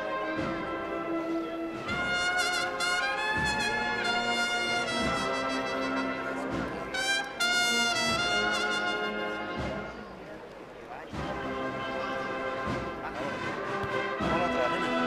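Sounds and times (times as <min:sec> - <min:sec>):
brass band playing slow march: 0:00.0 - 0:15.0.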